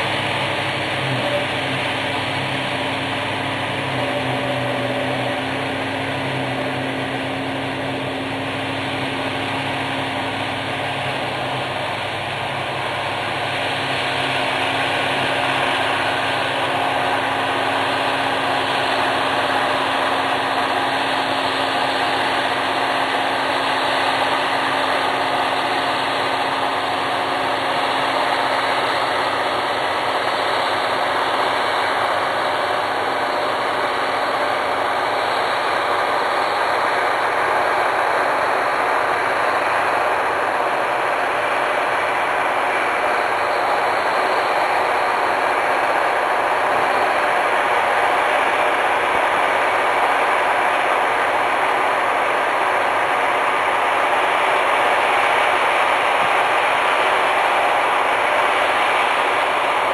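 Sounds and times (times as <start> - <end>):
engine running: 0.0 - 59.9
rushing mechanical whir: 0.0 - 59.9.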